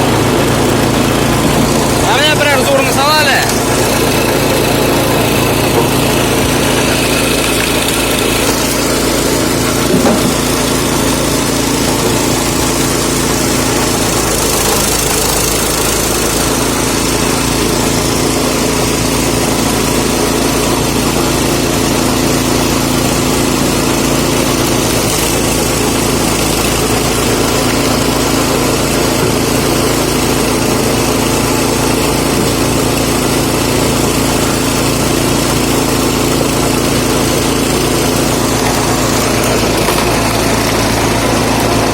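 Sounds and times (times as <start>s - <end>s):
petrol engine running: 0.0s - 41.9s.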